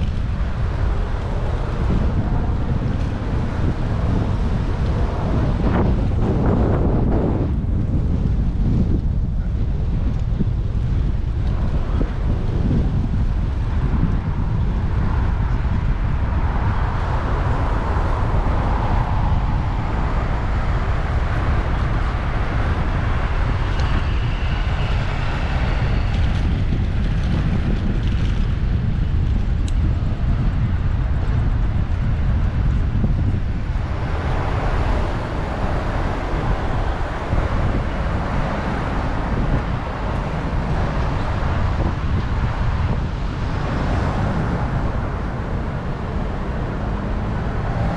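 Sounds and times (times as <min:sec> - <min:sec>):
road traffic: 0:00.0 - 0:47.9
wind on microphone: 0:00.0 - 0:47.9.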